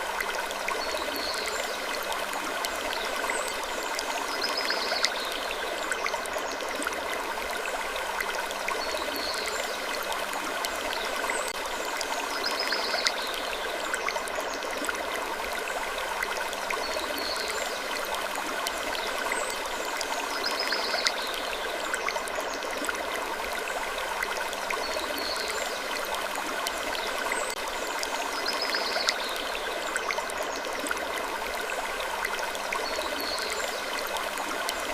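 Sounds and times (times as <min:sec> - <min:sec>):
stream-like rushing: 0:00.0 - 0:34.9.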